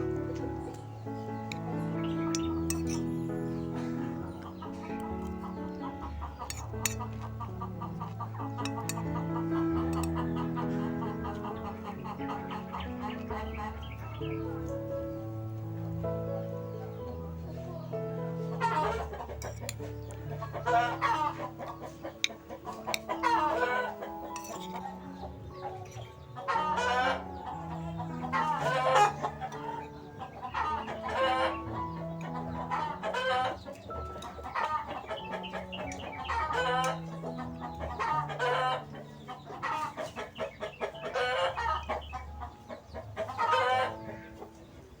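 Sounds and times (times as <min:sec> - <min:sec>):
background music with low notes: 0:00.0 - 0:45.0
chickens clucking: 0:00.0 - 0:45.0.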